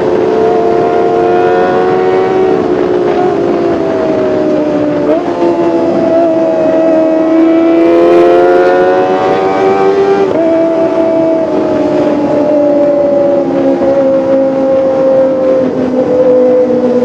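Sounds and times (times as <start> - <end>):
motorcycle engine wailing: 0.0 - 17.0.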